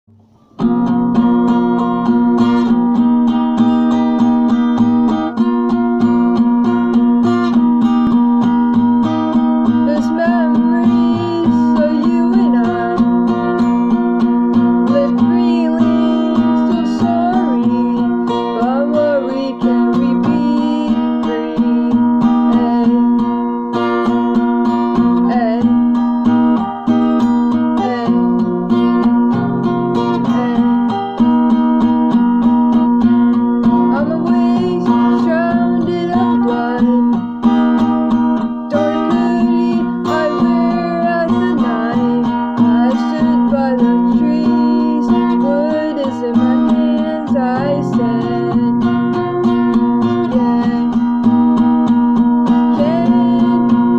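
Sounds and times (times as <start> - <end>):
acoustic guitar strumming: 0.1 - 53.9
person singing: 1.2 - 53.9.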